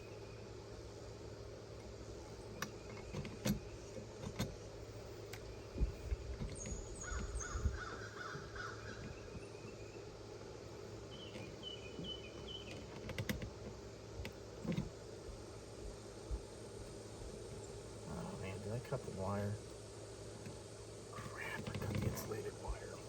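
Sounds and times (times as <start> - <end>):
birds calling: 0.0 - 14.9, 17.4 - 23.0.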